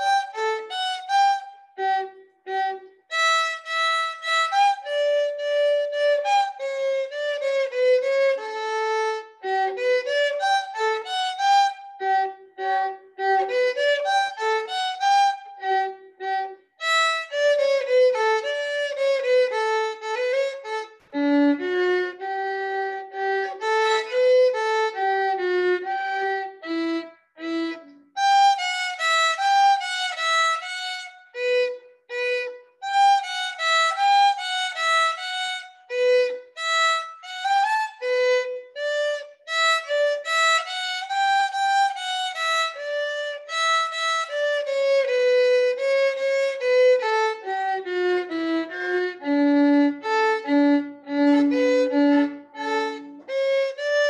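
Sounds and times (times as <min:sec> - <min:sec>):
solo violin melody: 0:00.0 - 0:54.0.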